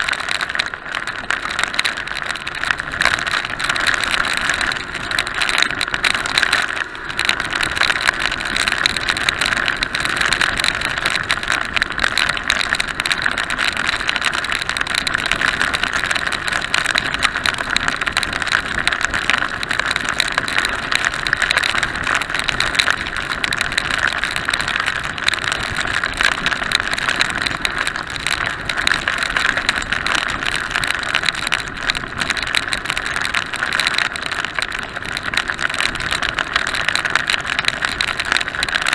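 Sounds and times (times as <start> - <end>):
heavy rain: 0.0 - 38.9
raindrops hitting camera: 0.0 - 38.9
rushing wind: 0.0 - 38.9.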